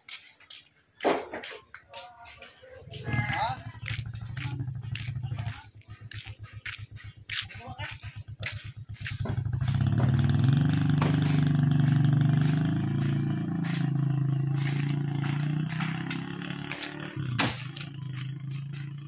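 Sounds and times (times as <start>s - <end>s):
motorcycle engine running: 2.8s - 19.0s.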